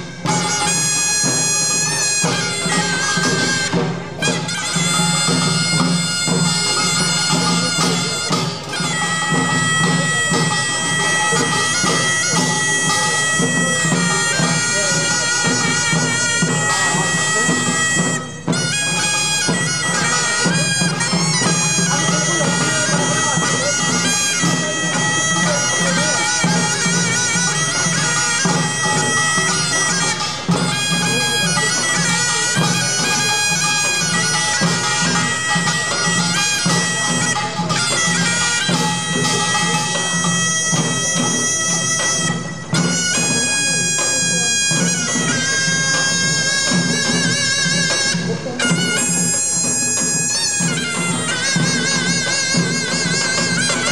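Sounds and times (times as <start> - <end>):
small gongs clanging: 0.0 - 50.0
drums and gong: 0.0 - 53.9
reedy melodic tone: 0.0 - 53.9.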